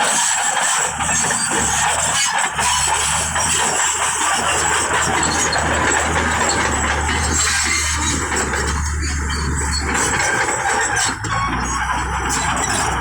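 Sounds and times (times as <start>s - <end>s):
bulldozer engine and tracks: 0.0s - 13.0s.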